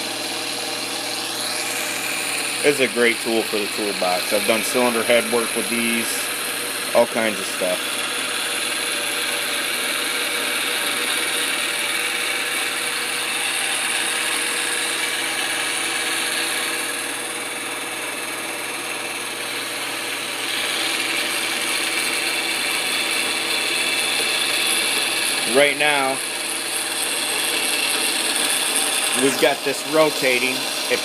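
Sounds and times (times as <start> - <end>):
milling machine cutting metal: 0.0 - 31.0.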